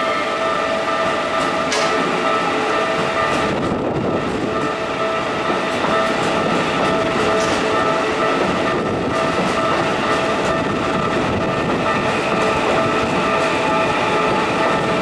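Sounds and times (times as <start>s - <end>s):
crossing warning bell ringing: 0.0s - 15.0s
train wheels rumbling and clacking: 0.0s - 15.0s.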